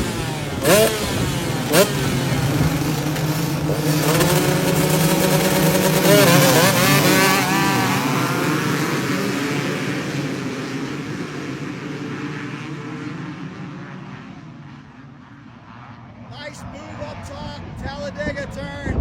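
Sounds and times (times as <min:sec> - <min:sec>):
motocross bike engines racing: 0:00.0 - 0:18.8.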